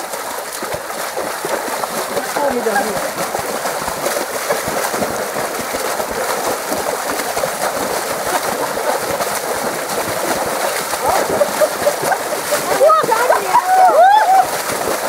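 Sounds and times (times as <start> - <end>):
water splashing in paddling pool: 0.0 - 15.0.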